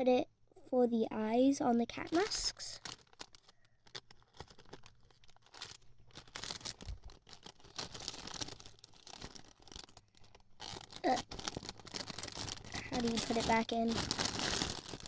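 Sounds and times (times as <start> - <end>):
packaging crinkling and rustling: 1.8 - 15.0.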